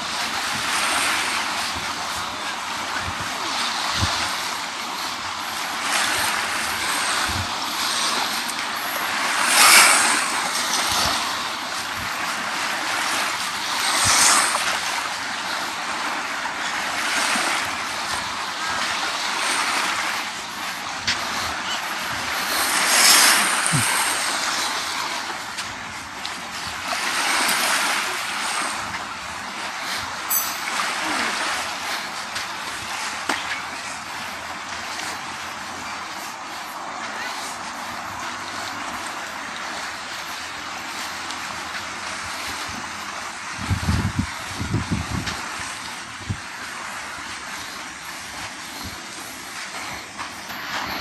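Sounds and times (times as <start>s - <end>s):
waves washing onto beach: 0.0s - 51.0s.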